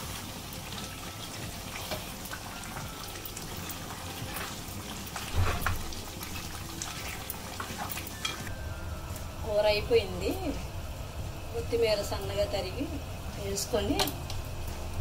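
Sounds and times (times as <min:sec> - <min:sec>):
curry sizzling in a pot: 0:00.0 - 0:15.0.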